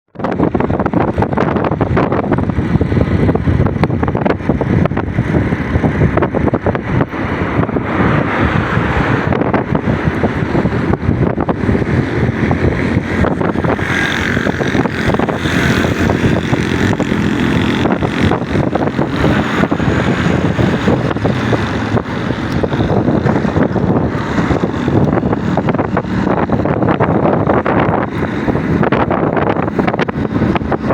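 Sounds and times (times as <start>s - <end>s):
moving vehicle running noise: 0.1s - 30.9s
wind buffeting microphone: 0.1s - 30.9s.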